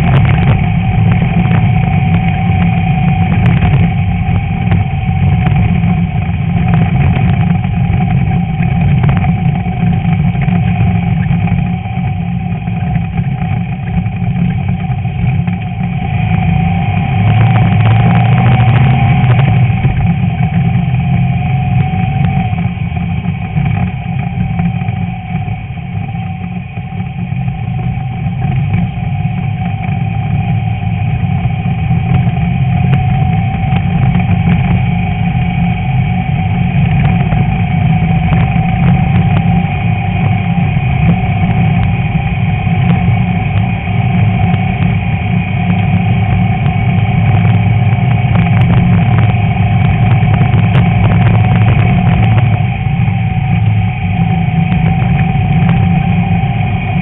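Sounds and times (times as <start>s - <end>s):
air-cooled car engine running: 0.0s - 57.0s.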